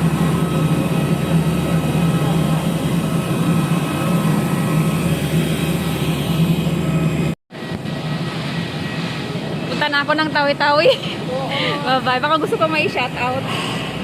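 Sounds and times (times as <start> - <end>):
airliner engines droning: 0.0 - 14.0.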